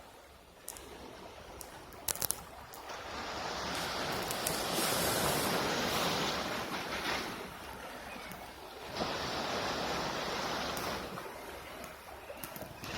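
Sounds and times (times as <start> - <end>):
waves washing onto shore: 0.0 - 12.9.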